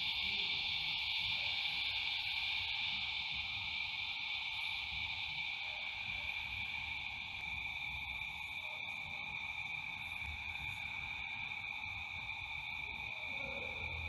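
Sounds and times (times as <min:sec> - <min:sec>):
night insects chirping: 0:00.0 - 0:14.0.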